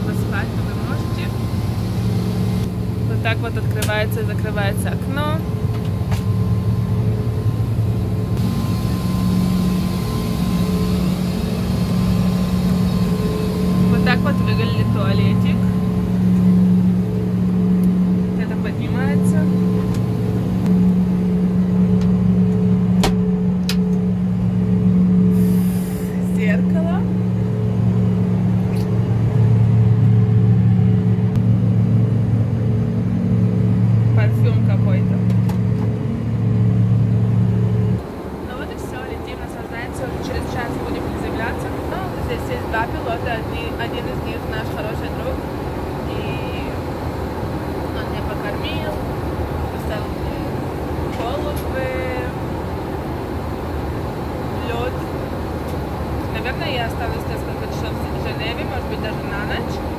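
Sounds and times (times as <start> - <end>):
faint steady whine: 0.0 - 59.9
jet cabin engine and air noise: 0.0 - 59.9
low hum: 0.0 - 59.9.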